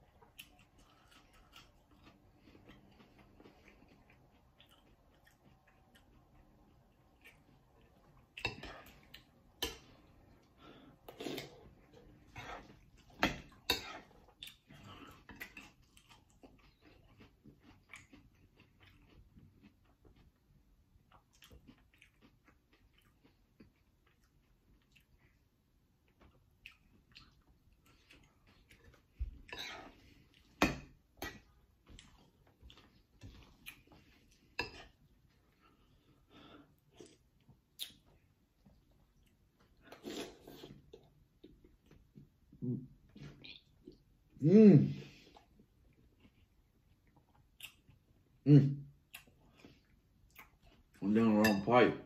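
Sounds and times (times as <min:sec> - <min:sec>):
person chewing crunchy cereal: 0:00.0 - 0:41.9.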